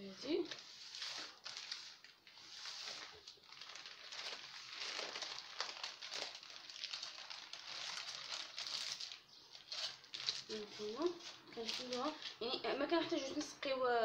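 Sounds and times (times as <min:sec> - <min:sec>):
baking paper crinkling: 0:00.0 - 0:13.5.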